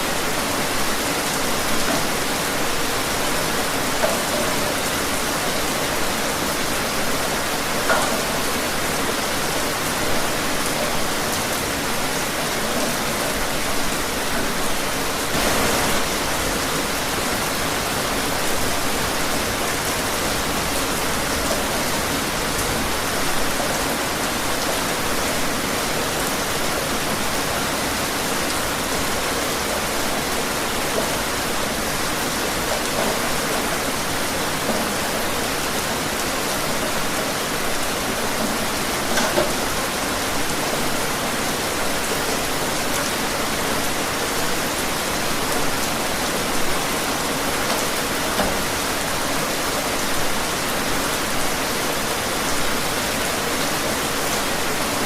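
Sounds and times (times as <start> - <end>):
louder raindrops: 0.0 - 55.0
steady rain: 0.0 - 55.0.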